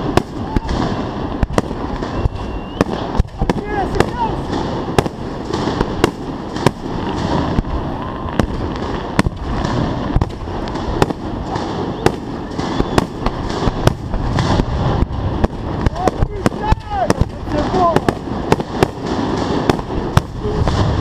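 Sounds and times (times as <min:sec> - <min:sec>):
fireworks rumble of launches: 0:00.0 - 0:21.0
fireworks sharp bangs: 0:00.0 - 0:21.0.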